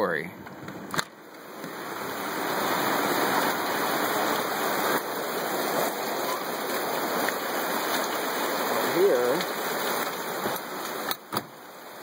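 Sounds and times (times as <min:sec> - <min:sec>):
heavy rain pouring: 0:01.2 - 0:12.0.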